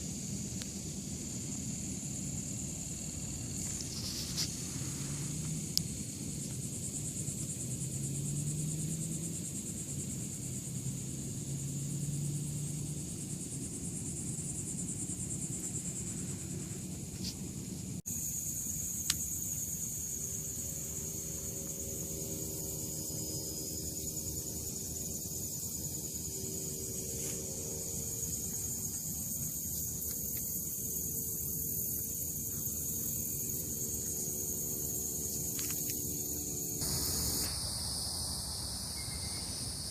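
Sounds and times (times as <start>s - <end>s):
low outdoor rumble: 0.0s - 38.9s
high insect chorus: 0.0s - 39.9s.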